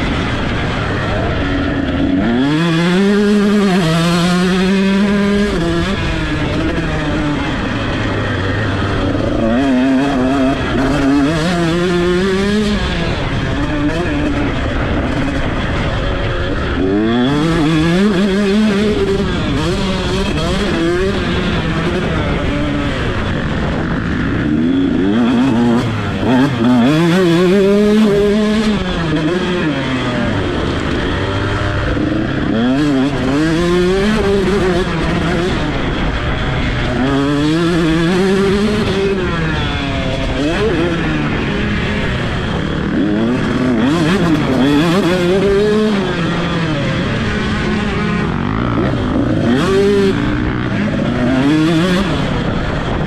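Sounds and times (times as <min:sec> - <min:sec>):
two-stroke motocross bike engine: 0:00.0 - 0:53.0.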